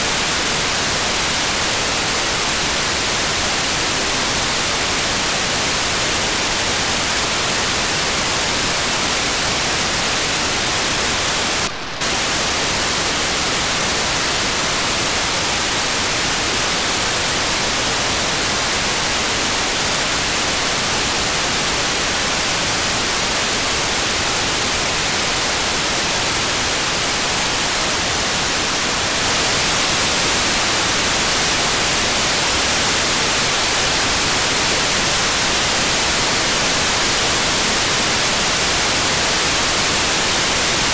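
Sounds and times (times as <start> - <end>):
radio static hiss: 0.0 - 40.9.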